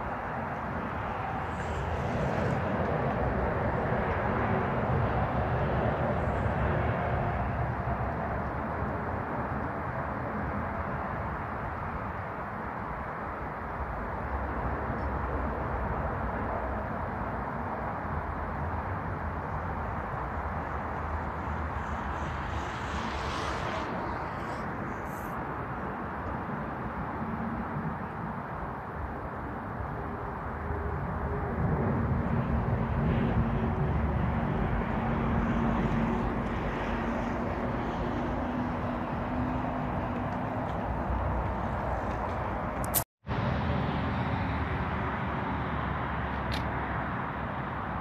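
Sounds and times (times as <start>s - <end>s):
wind rumbling on microphone: 0.0s - 48.0s.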